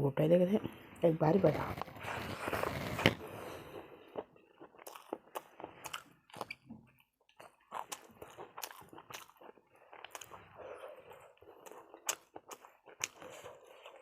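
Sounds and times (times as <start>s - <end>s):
person chewing crunchy food: 1.5s - 14.0s.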